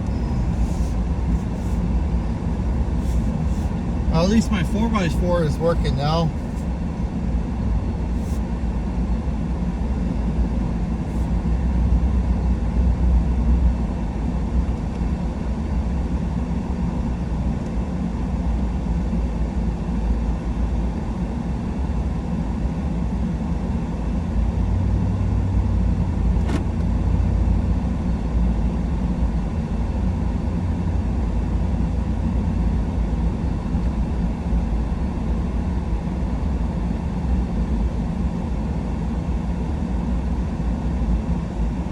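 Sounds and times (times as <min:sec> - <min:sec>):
truck engine and tyres rumbling: 0:00.0 - 0:18.7, 0:23.0 - 0:38.7.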